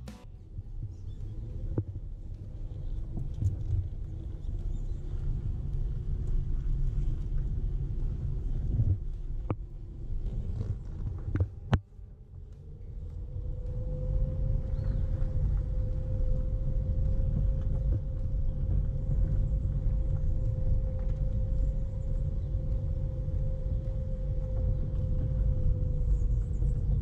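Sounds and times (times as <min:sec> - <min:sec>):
car engine and tyre rumble: 0:00.0 - 0:27.0
faint steady hum: 0:00.0 - 0:27.0.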